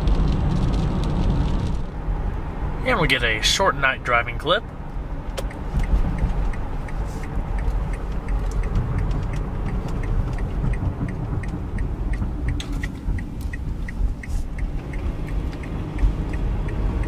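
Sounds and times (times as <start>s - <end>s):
car cabin road rumble: 0.0s - 17.0s
turn signal ticking: 0.0s - 17.0s.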